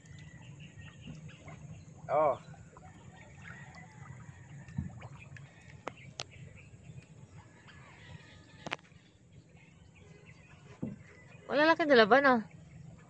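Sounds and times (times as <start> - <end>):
wet net handled in water: 0.0 - 11.3.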